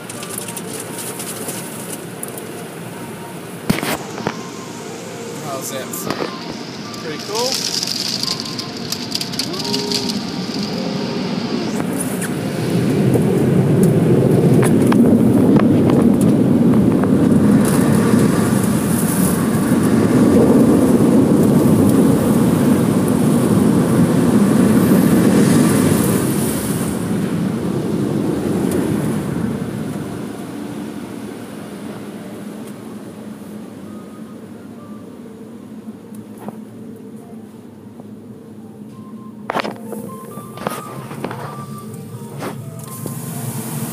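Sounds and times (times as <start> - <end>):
muffled car wash rumble: 0.0 - 43.9.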